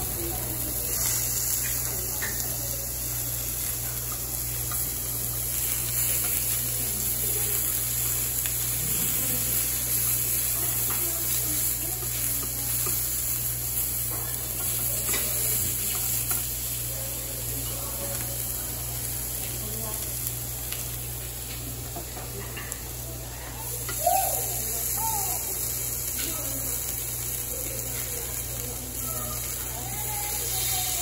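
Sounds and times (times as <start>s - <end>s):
food sizzling on grill: 0.0s - 31.0s.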